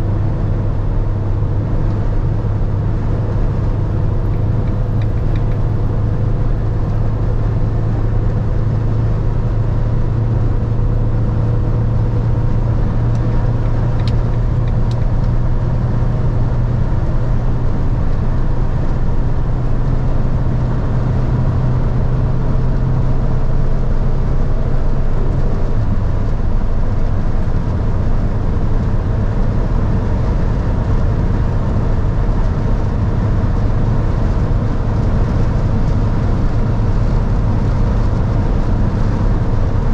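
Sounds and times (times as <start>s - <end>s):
diesel engine drone: 0.0s - 39.9s
wind and road noise: 0.0s - 39.9s.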